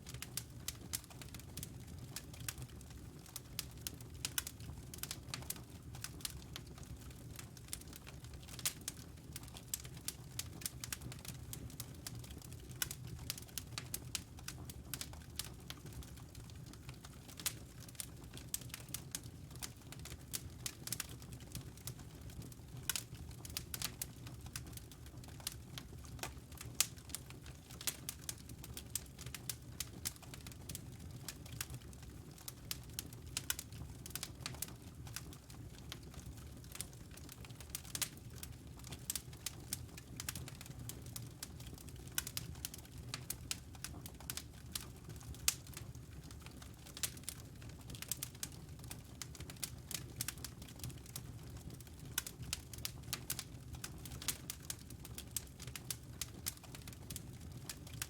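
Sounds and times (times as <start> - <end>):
wood logs crackling in fireplace: 0.0 - 58.0.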